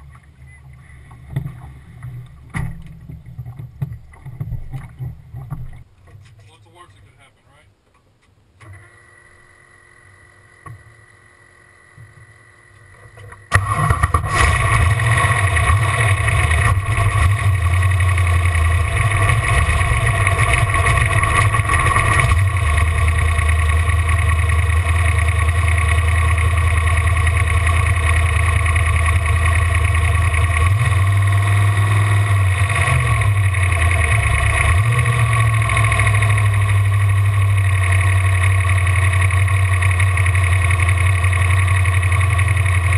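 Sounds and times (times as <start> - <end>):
boat engine running: 0.0 - 7.4, 8.6 - 42.9.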